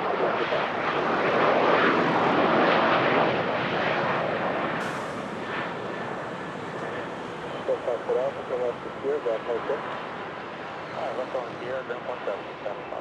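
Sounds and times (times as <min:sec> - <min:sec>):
aircraft engines passing: 0:00.0 - 0:13.0.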